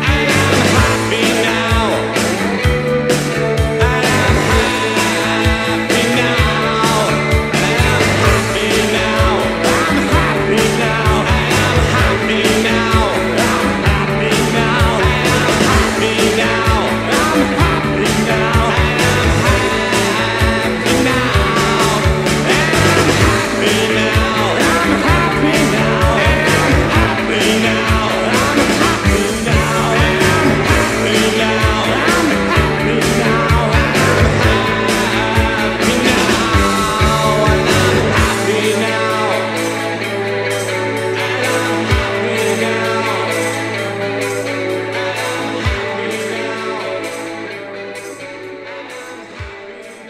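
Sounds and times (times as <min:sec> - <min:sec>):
steady drum beat: 0:00.0 - 0:44.4
rock song: 0:00.0 - 0:50.0.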